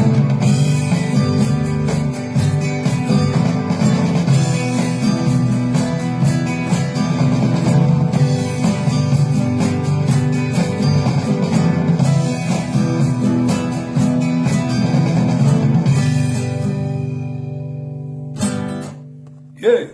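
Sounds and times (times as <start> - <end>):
guitar strumming: 0.0 - 19.9.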